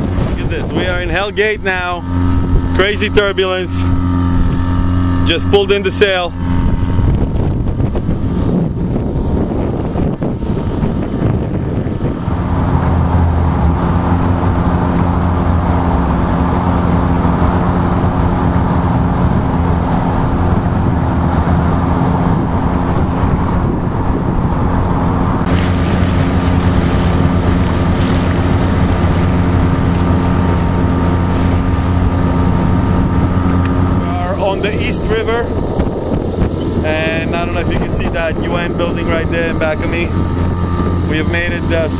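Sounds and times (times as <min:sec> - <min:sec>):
boat motor running: 0:00.0 - 0:41.9
rushing water: 0:00.0 - 0:41.9
wind on microphone: 0:00.0 - 0:41.9.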